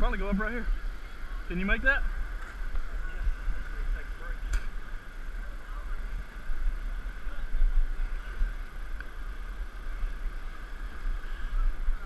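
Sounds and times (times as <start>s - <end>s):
deep uneven rumble: 0.0s - 12.0s.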